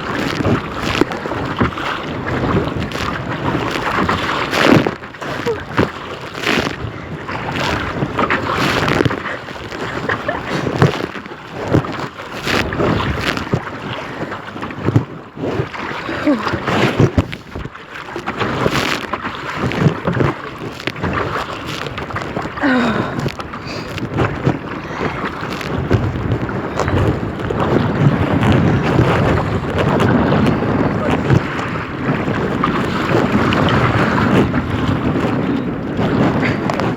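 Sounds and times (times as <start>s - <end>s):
river waves splashing against kayak: 0.0s - 36.9s
wind buffeting microphone: 0.0s - 36.9s.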